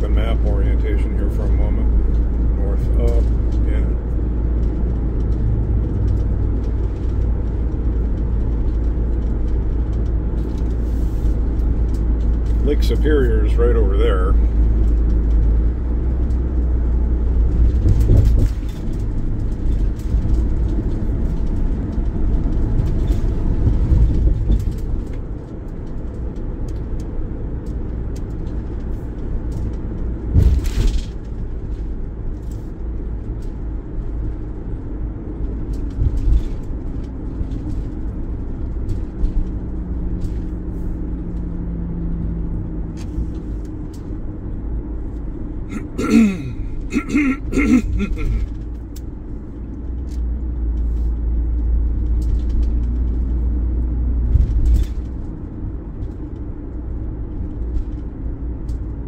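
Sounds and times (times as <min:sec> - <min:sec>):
van road and engine rumble: 0:00.0 - 0:59.0.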